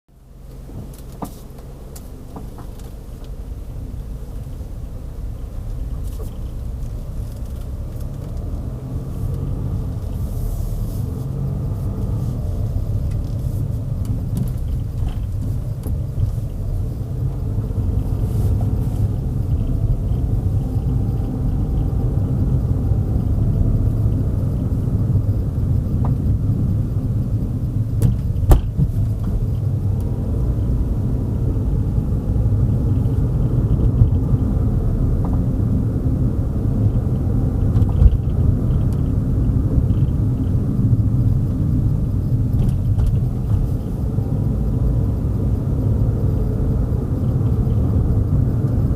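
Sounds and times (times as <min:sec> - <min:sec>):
car engine and tyres rumbling: 0:00.1 - 0:48.9.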